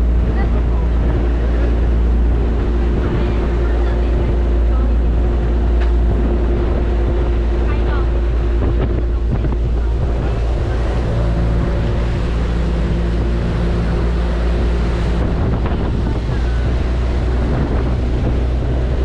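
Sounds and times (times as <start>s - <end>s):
boat engine running: 0.0s - 19.0s
waves washing against hull: 0.0s - 19.0s
wind buffeting microphone: 0.0s - 19.0s.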